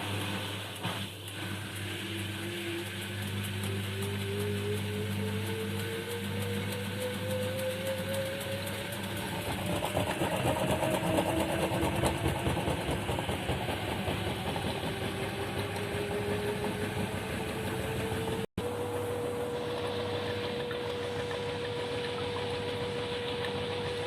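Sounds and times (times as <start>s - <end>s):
washing machine motor whining: 0.0s - 24.0s.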